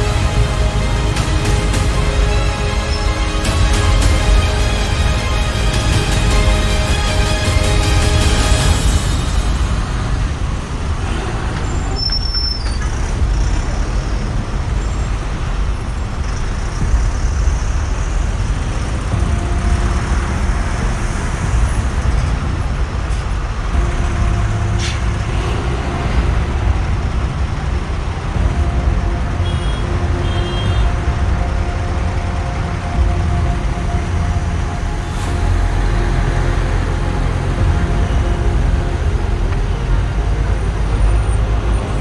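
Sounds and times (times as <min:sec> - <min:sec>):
surrounding traffic: 0:00.0 - 0:42.0
wind and road noise: 0:00.0 - 0:42.0.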